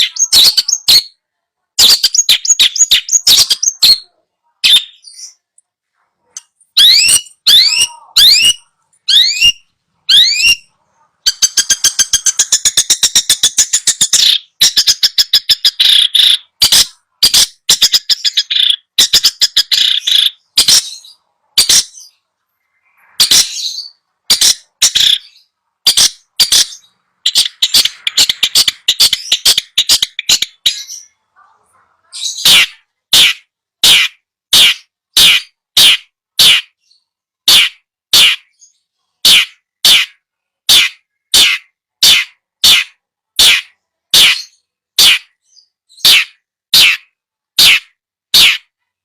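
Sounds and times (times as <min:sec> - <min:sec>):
bird song: 0:00.0 - 0:49.0.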